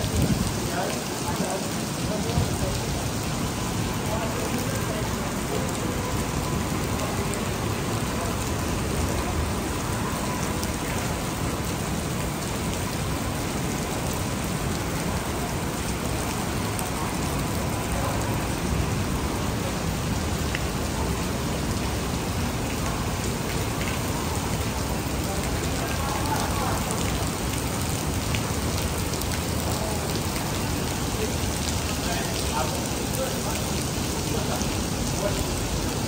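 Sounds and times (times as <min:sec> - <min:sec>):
heavy rain on pavement: 0:00.0 - 0:36.0.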